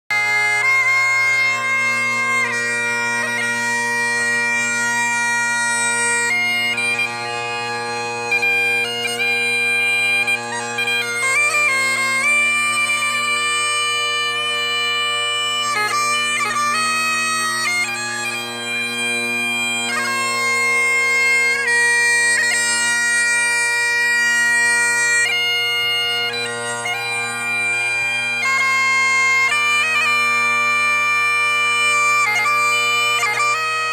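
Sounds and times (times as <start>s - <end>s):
bagpipes playing a tune: 0.1s - 33.9s.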